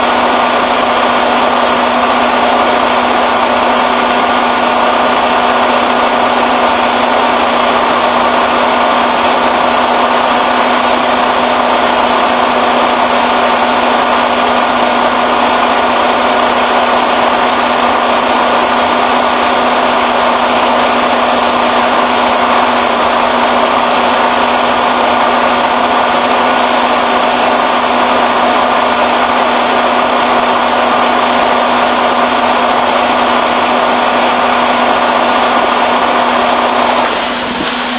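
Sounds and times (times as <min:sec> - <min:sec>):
machine drone: 0:00.0 - 0:37.9.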